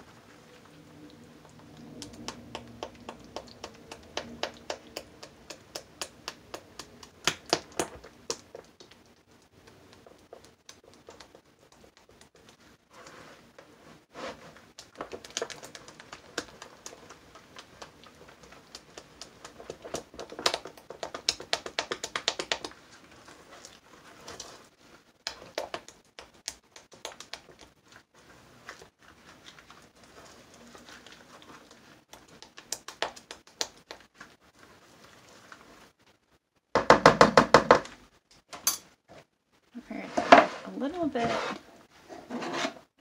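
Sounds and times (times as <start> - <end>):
spatula stirring thick paste: 0.0 - 36.1, 39.9 - 42.9.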